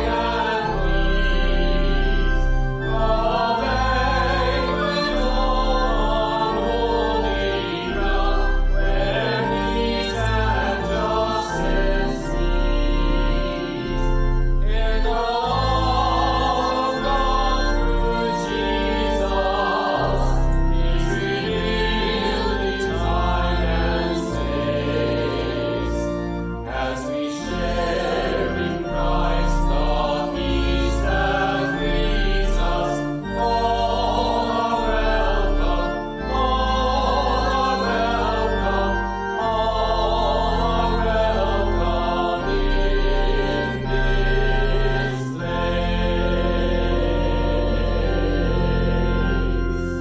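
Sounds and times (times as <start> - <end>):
choir singing a hymn: 0.0 - 50.0
instrumental accompaniment: 0.0 - 50.0.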